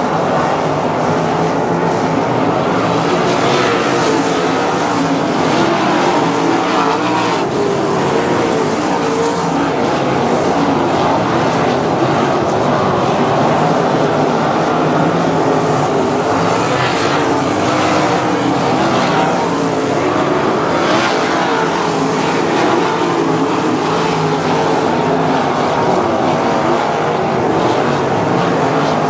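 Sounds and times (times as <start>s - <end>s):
cars passing by: 0.0s - 29.0s
racing car engines: 0.0s - 29.0s.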